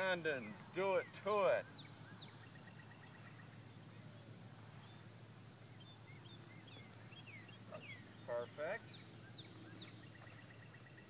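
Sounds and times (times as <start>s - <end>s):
faint bird chirps: 1.0s - 11.0s.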